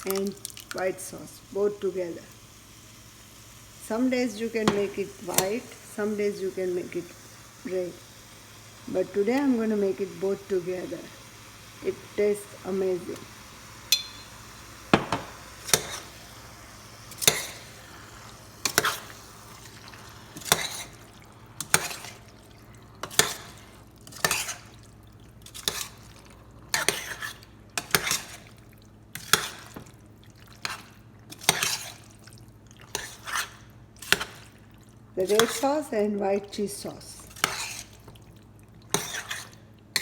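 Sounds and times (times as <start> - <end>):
faint sizzle: 0.0 - 40.0.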